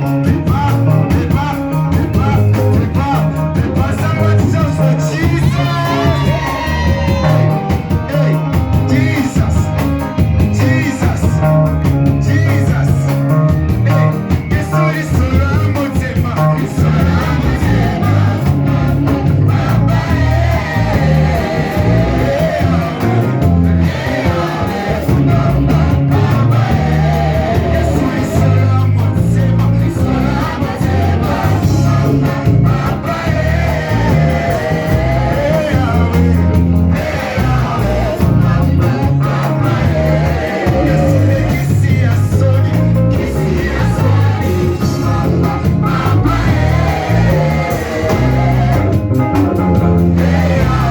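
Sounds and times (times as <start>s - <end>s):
band playing with loud bass: 0.0s - 50.9s
voices singing praise song: 0.0s - 50.9s.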